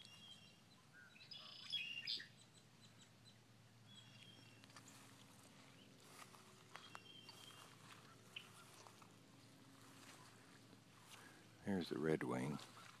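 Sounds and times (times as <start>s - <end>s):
faint low hum: 0.0s - 13.0s
songbird chirps: 0.0s - 13.0s.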